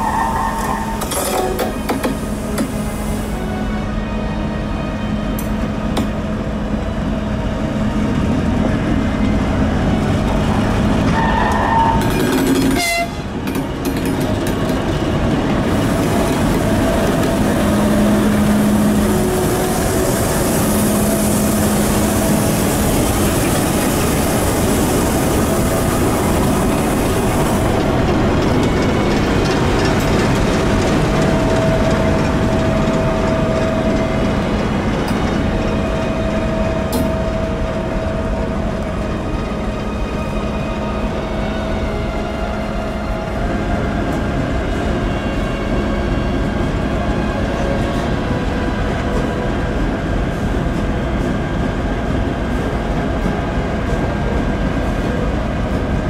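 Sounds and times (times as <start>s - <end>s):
train rolling noise: 0.0s - 56.0s.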